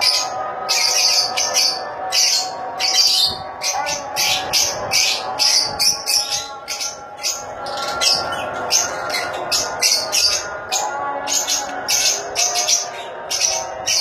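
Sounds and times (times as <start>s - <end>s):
lovebirds chirping and squawking: 0.0s - 14.0s.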